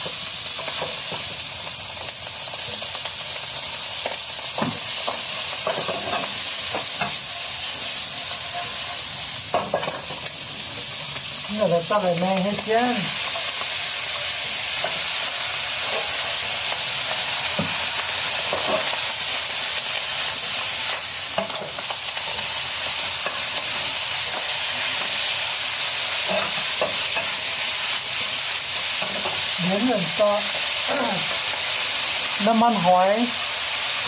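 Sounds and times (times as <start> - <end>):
greens sizzling in a wok: 0.0 - 34.0.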